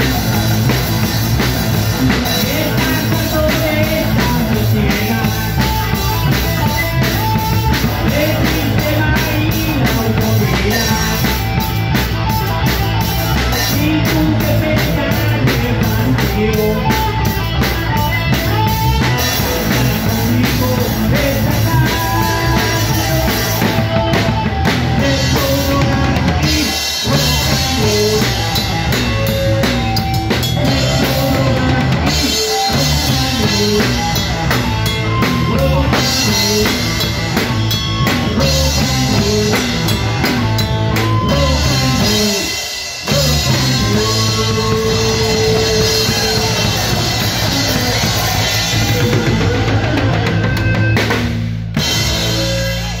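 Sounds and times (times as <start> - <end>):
drum kit beat: 0.0 - 53.0
live rock band playing: 0.0 - 53.0.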